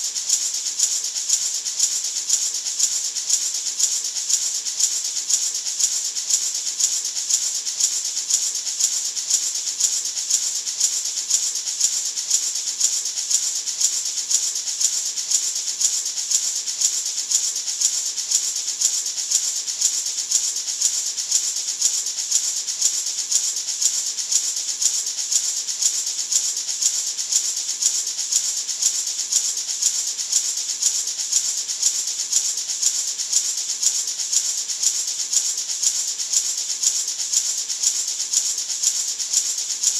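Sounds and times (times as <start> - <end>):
gourd maraca rattling: 0.0 - 39.9.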